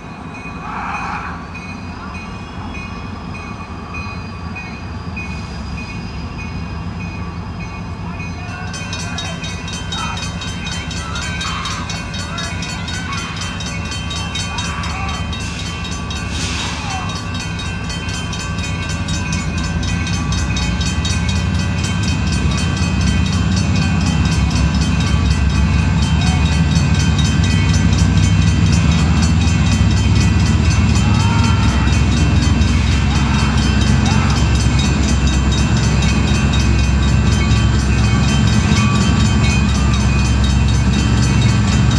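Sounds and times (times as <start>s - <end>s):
diesel locomotive engine rumbling: 0.0s - 41.9s.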